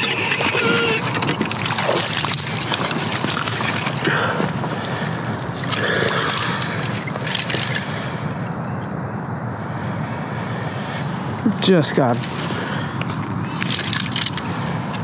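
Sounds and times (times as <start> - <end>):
water splashing: 0.0 - 8.7, 10.8 - 15.0
rustling of brush and leaves: 0.0 - 15.0.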